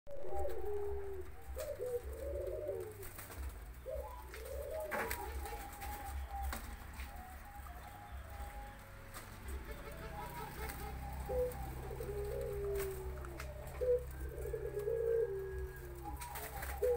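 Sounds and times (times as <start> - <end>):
doves cooing: 0.1 - 16.9.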